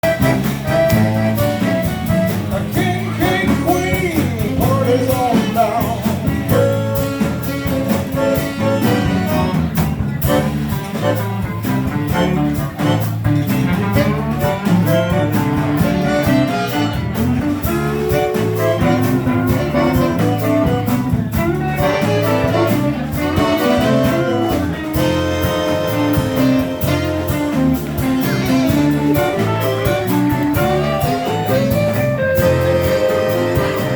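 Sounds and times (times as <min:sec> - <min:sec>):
band playing live music: 0:00.0 - 0:33.9.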